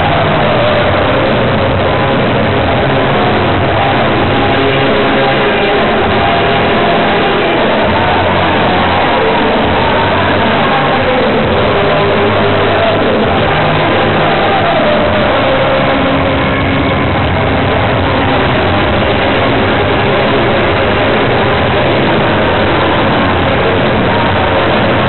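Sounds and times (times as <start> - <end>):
music over public address: 0.0 - 25.0
stadium crowd noise: 0.0 - 25.0.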